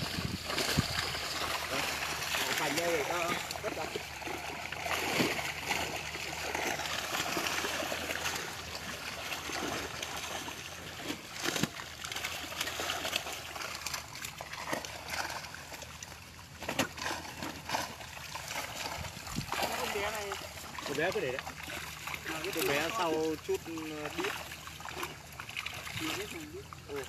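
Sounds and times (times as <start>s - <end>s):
muddy water splashing and sloshing: 0.0s - 27.0s
sharp splashes: 0.0s - 27.0s.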